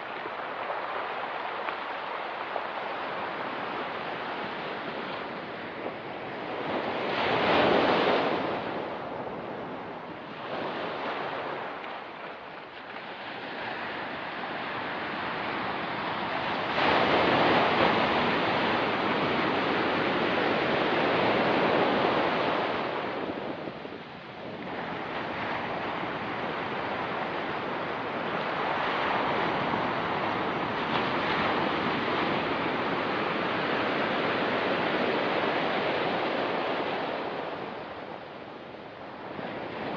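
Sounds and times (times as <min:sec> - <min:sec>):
ocean surf on rocky shore: 0:00.0 - 0:39.9.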